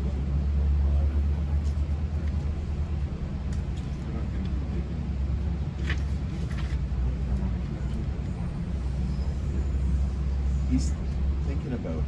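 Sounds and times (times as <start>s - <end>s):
train rumbling from inside coach: 0.0s - 12.0s.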